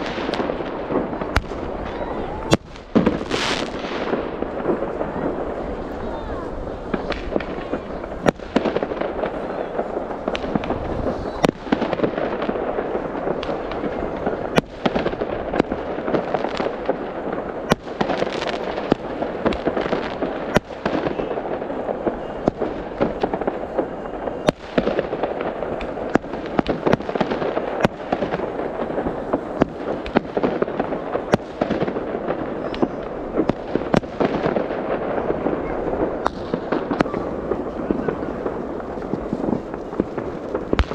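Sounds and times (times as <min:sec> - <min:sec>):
fireworks crackling: 0:00.0 - 0:40.9
fireworks sharp bangs: 0:00.0 - 0:40.9.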